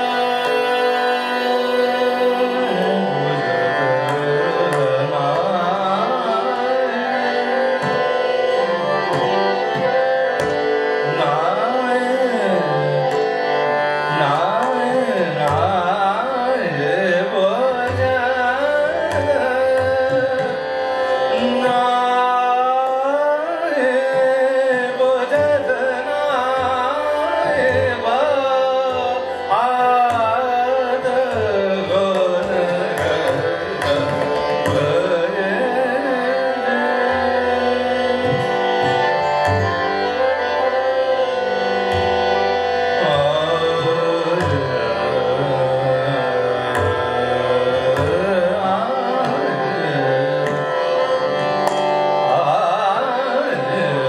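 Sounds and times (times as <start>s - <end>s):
man singing classical vocal: 0.0s - 54.0s
tanpura and harmonium drone: 0.0s - 54.0s
tabla playing: 7.3s - 13.4s, 14.1s - 23.0s, 23.8s - 53.0s.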